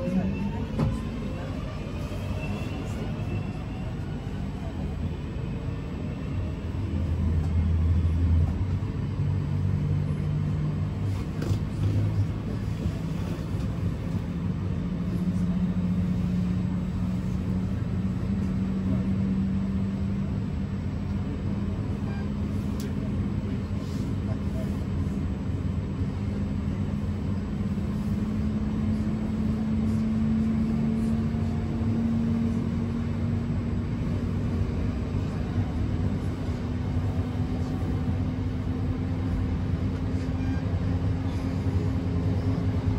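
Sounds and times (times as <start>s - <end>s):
train traction drone: 0.0s - 42.9s
train wheels rumbling on track: 0.0s - 42.9s.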